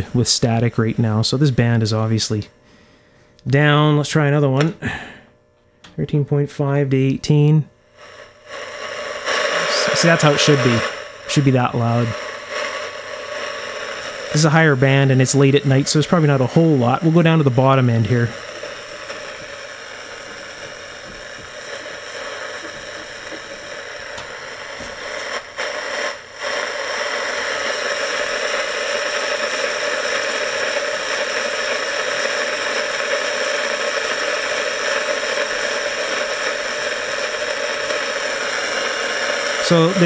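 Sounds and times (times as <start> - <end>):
radio static hiss: 0.0 - 40.0.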